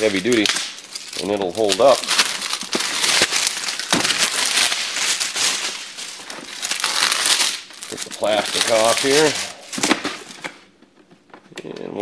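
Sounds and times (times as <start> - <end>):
plastic shrink wrap crinkling: 0.0 - 10.8.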